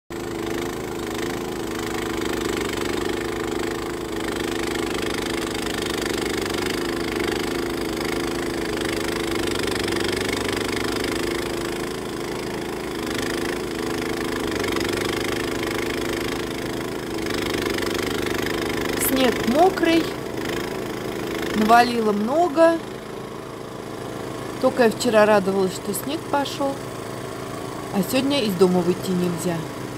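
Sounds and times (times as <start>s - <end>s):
snow blower engine running: 0.1s - 29.9s.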